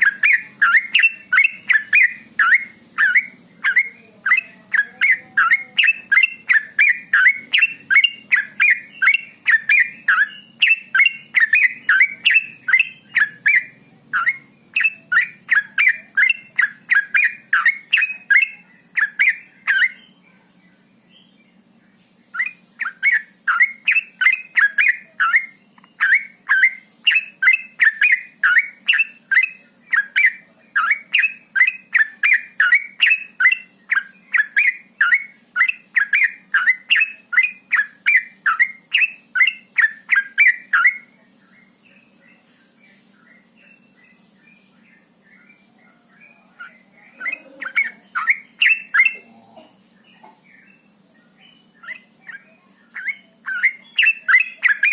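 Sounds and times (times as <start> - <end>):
bird singing chattering notes: 0.0 - 54.9.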